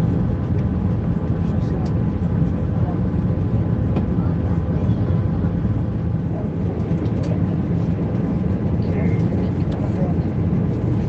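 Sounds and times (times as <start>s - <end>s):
airplane cabin rumbling hum: 0.0s - 11.0s.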